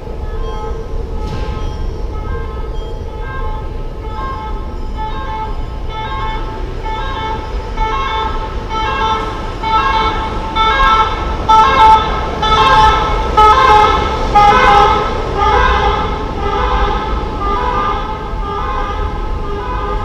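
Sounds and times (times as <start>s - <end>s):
city traffic rumble: 0.0s - 20.0s
emergency vehicle siren: 0.0s - 20.0s.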